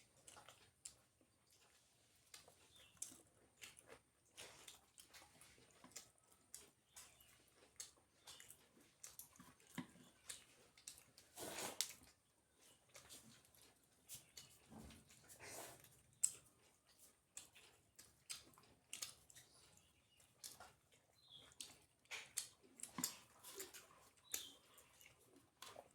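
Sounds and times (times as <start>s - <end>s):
chewing and lip smacks: 0.0s - 25.9s.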